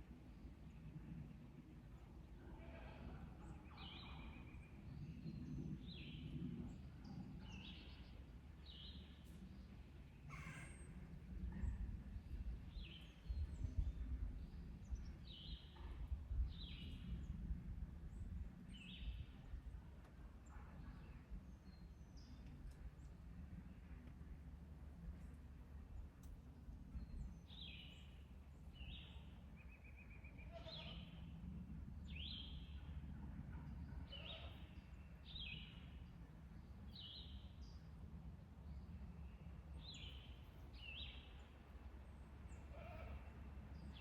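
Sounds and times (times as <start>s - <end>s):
faint low rumble: 0.0s - 44.0s.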